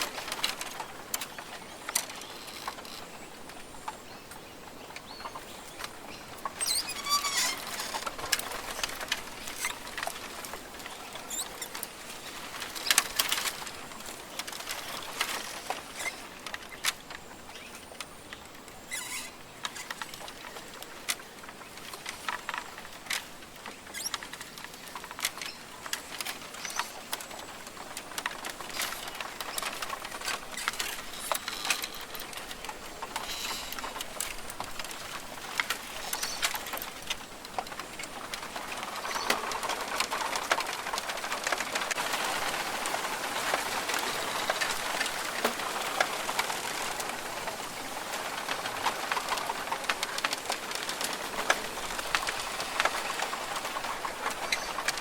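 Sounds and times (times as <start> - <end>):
light pattering and clicks: 0.0 - 55.0
soft steady hiss: 0.0 - 55.0.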